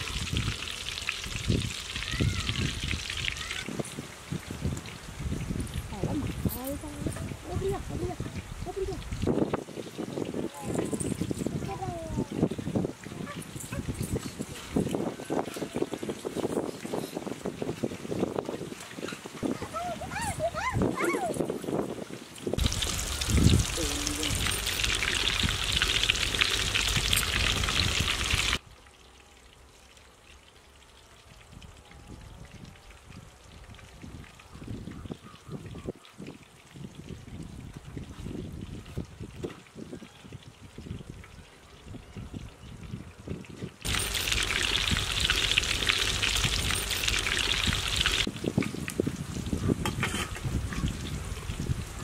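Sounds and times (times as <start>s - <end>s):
chicken deep-frying in oil: 0.0s - 13.8s, 14.5s - 20.7s, 22.4s - 52.0s.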